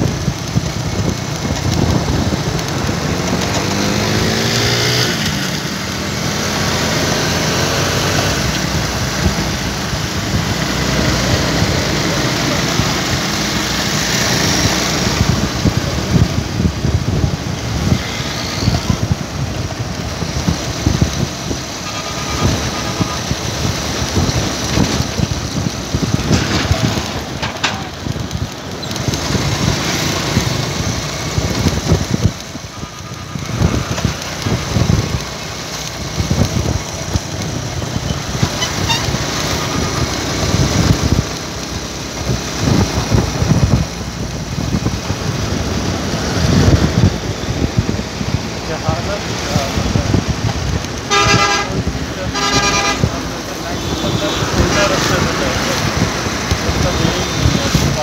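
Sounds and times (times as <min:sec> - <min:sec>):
vehicle engine and road noise: 0:00.0 - 0:58.0
wind rumble on microphone: 0:00.0 - 0:58.0.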